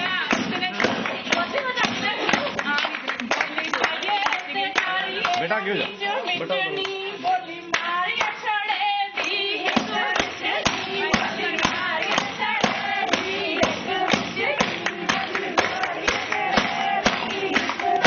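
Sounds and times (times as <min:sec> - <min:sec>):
rhythmic hand clapping: 0:00.0 - 0:18.0
women singing together: 0:00.0 - 0:18.0.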